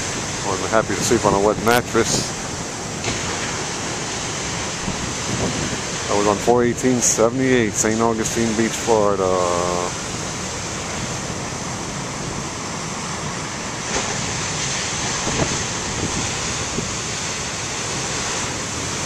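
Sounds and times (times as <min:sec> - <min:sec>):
wind rumbling on microphone: 0:00.0 - 0:09.0, 0:09.8 - 0:19.0
ocean surf breaking: 0:00.0 - 0:19.0.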